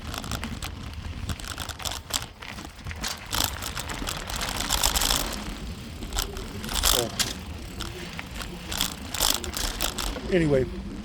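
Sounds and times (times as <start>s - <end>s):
bicycle clicks and rattles: 0.0s - 11.0s
bicycle rolling on trail: 0.0s - 11.0s.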